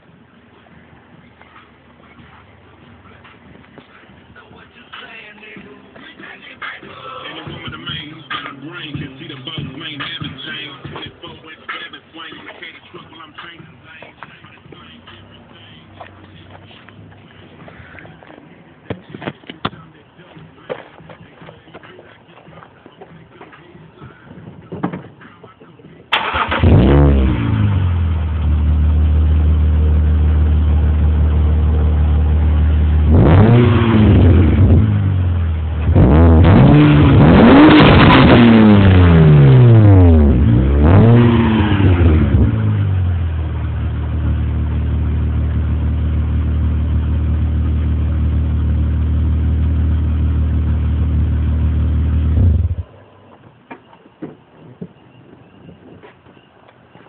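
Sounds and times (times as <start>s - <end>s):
car engine idling and revving: 0.0s - 24.2s, 25.6s - 53.0s.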